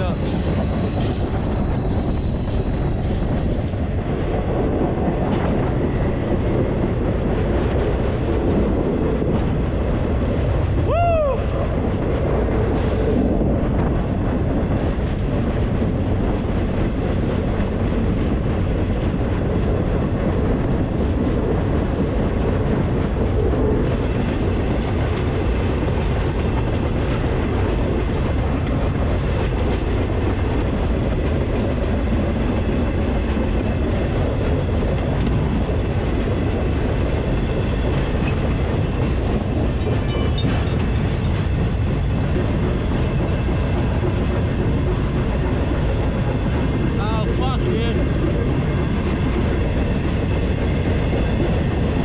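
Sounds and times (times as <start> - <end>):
train wheels rumbling on track: 0.0 - 52.0.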